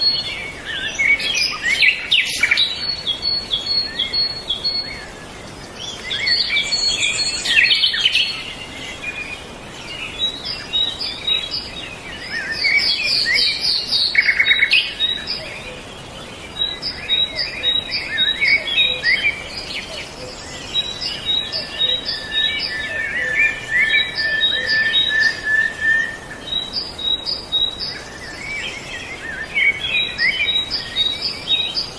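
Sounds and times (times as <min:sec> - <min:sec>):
songbirds chorus: 0:00.0 - 0:31.9.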